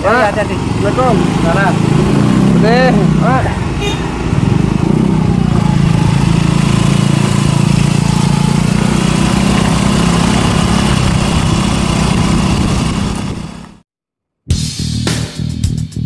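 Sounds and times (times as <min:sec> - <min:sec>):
small motorcycle engine running: 0:00.0 - 0:13.8
wind and road noise: 0:00.0 - 0:13.8.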